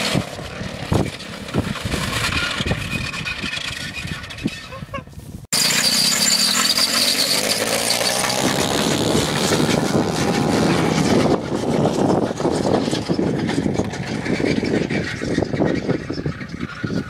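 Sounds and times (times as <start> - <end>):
heavy metal unit scraping on ground: 0.0 - 17.0
motorbike engine revving: 0.0 - 17.0.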